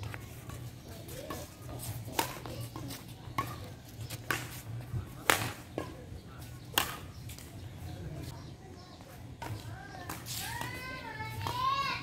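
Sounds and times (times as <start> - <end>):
rackets striking shuttlecock: 0.0 - 7.6, 9.4 - 11.9.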